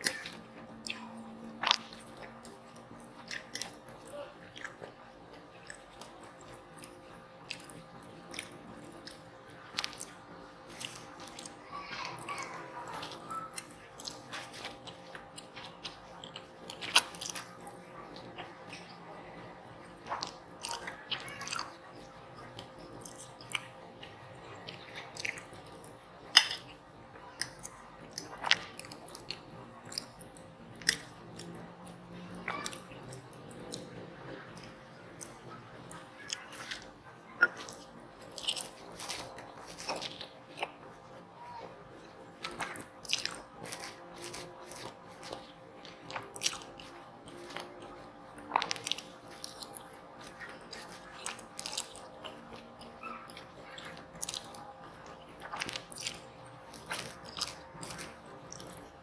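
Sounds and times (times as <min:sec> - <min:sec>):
chewing and wet mouth sounds: 0:00.0 - 0:59.0.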